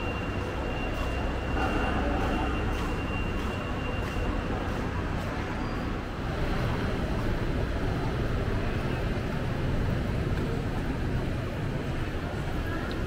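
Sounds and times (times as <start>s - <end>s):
low urban rumble: 0.0s - 13.0s.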